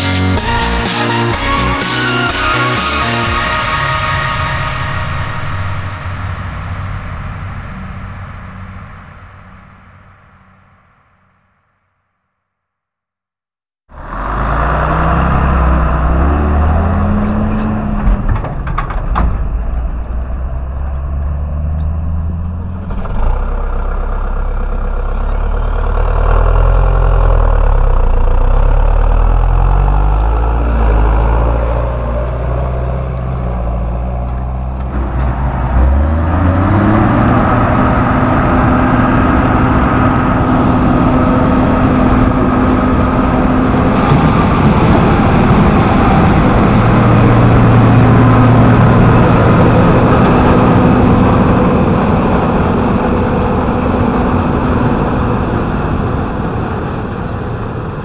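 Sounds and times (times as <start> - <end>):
tractor diesel engines revving: 0.0 - 10.6, 13.9 - 58.0.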